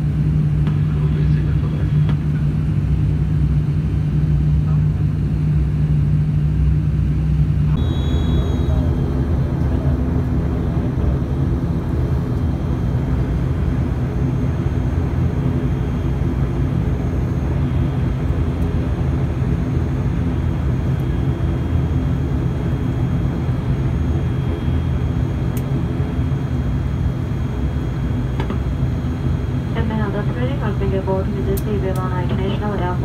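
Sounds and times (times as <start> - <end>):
airliner engine rumble in cabin: 0.0 - 33.0
faint high whine: 4.2 - 33.0.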